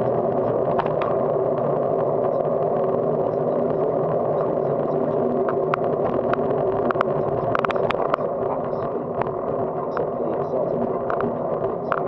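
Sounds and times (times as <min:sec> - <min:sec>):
wind and tyre noise: 0:00.0 - 0:12.0.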